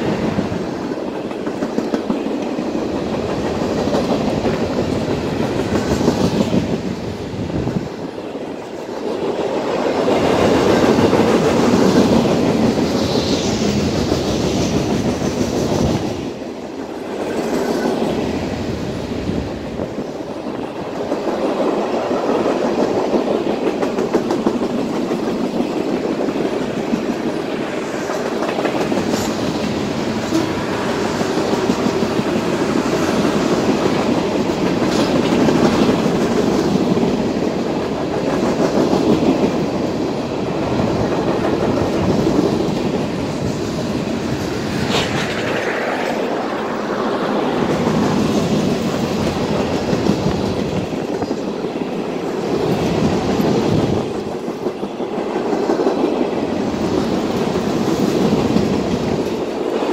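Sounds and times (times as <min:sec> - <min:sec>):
freight train rumble: 0:00.0 - 0:59.9
wheels clickety-clack on rails: 0:00.0 - 0:59.9.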